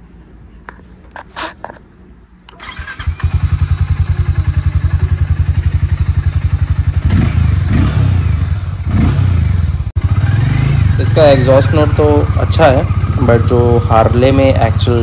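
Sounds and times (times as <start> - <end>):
motorcycle engine starting and idling: 0.7 - 1.8, 2.4 - 15.0.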